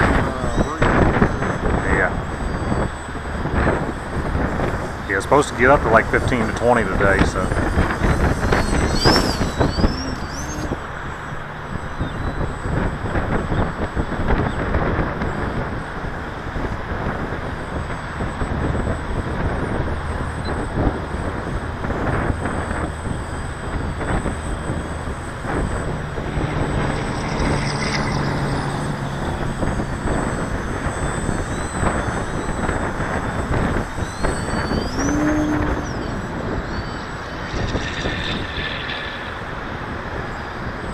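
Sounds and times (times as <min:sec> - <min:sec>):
model airplane motor whine: 0:00.0 - 0:40.9
wind buffeting microphone: 0:00.0 - 0:40.9.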